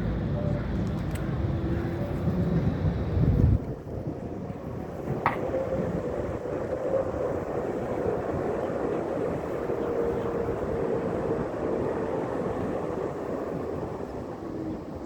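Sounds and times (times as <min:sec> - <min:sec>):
tram rumbling along street: 0:00.0 - 0:15.0.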